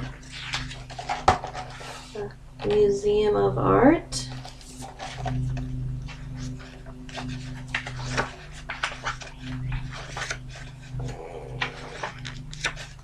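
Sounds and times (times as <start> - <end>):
book pages flipping: 0.0 - 2.8, 4.3 - 13.0
low hum: 0.0 - 13.0.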